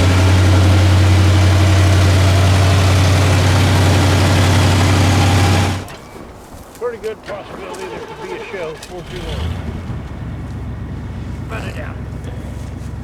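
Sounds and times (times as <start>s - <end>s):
vehicle engine deep hum: 0.0s - 6.5s, 7.3s - 13.0s.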